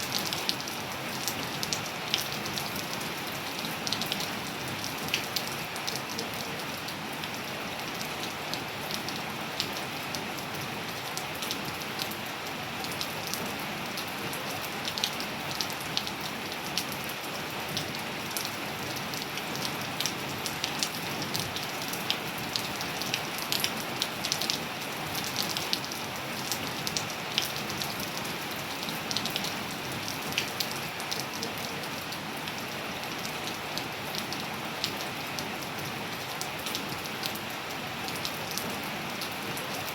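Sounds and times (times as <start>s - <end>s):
rain drops ticking on hard surfaces: 0.0s - 39.9s.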